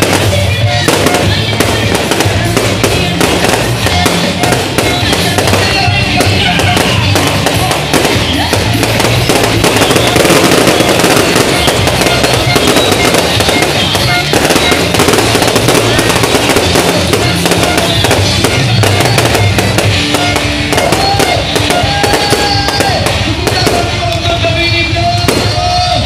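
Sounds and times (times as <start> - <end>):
fireworks crackling and popping: 0.0 - 26.0
music playing: 0.0 - 26.0.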